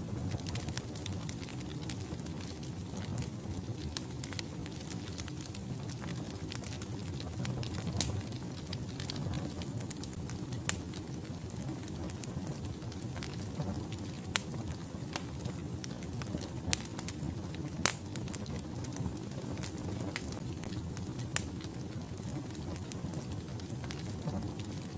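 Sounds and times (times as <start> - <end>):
fire crackling: 0.0 - 24.9
wood fire rumbling: 0.0 - 24.9.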